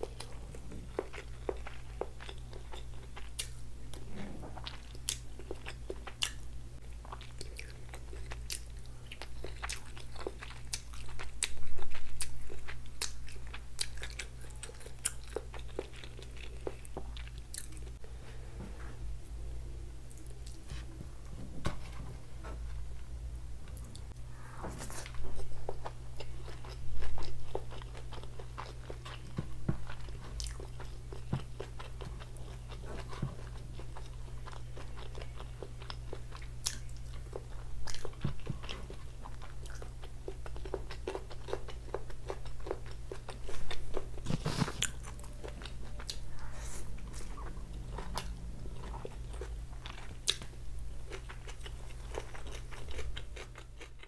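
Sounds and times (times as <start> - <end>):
chewing and mouth sounds: 0.0 - 18.0, 25.0 - 54.0
steady low hum: 0.0 - 54.0.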